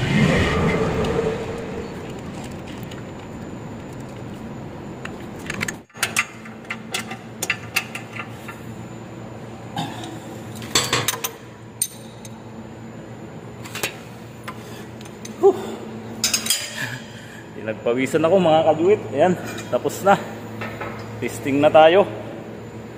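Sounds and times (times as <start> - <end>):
low machinery hum: 0.0 - 22.9.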